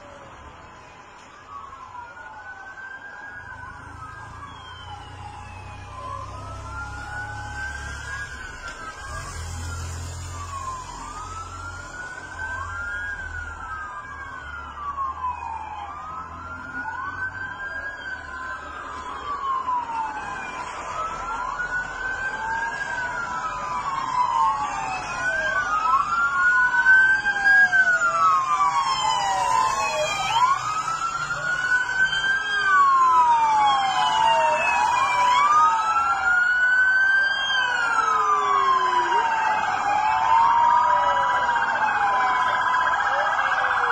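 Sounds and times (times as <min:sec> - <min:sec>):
emergency vehicle sirens wailing: 0:00.0 - 0:43.9.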